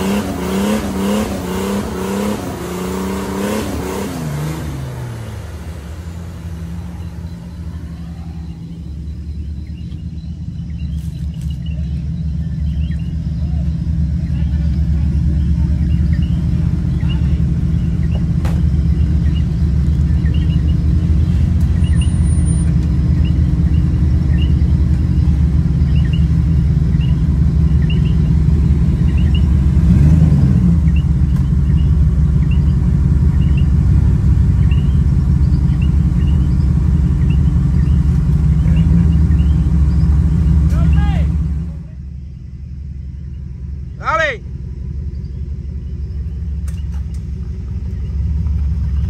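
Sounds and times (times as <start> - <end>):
vehicle engine rumbling: 0.0 - 49.0.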